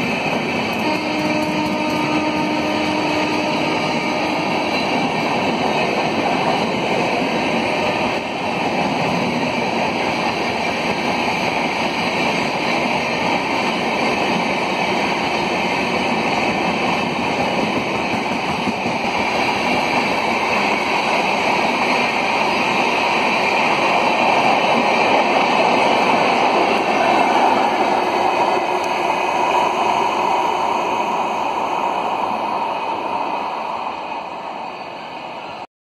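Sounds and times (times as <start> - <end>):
train wheels rumbling on rails: 0.0 - 35.6.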